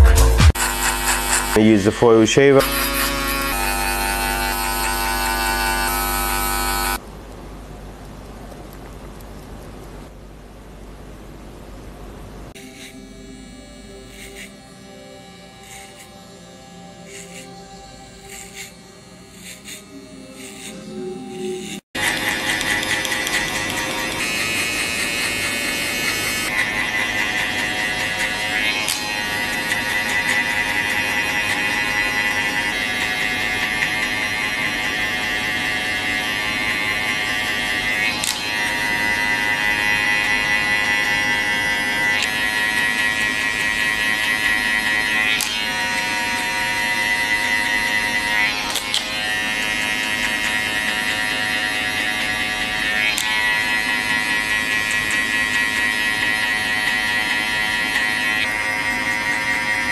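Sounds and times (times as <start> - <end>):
electric hair clippers buzzing: 0.0 - 7.0, 12.5 - 59.9.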